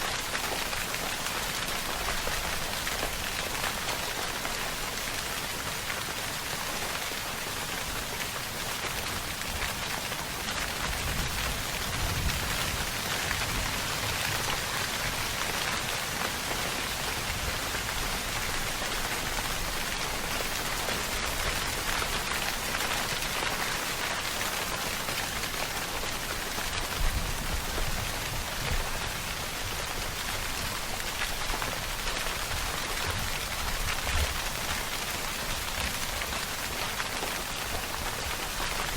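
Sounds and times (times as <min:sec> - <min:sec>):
steady dense rainfall: 0:00.0 - 0:38.9.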